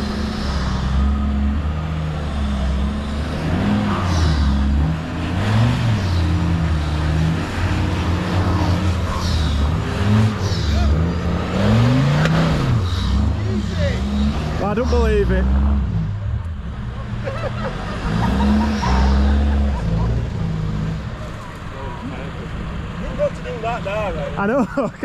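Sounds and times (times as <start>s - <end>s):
diesel engine working under load: 0.0s - 25.0s.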